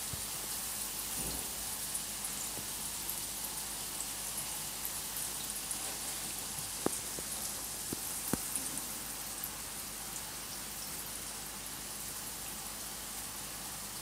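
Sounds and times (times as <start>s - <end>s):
aquarium air bubbles fizzing: 0.0s - 14.0s.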